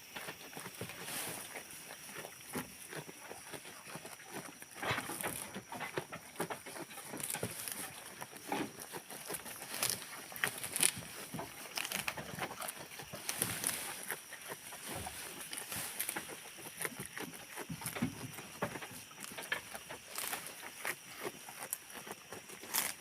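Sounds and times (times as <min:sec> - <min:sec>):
goats rustling and knocking: 0:00.0 - 0:23.0.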